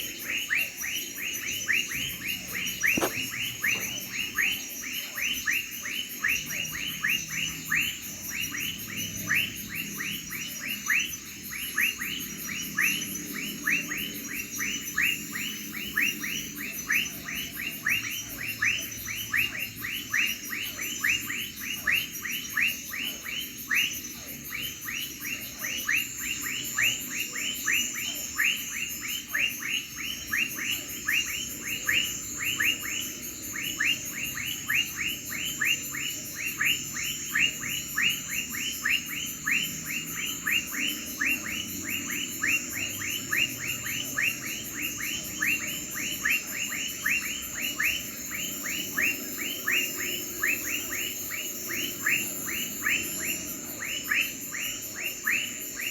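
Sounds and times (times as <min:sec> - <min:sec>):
cricket chirps: 0:00.0 - 0:55.9
crickets trilling: 0:00.0 - 0:55.9.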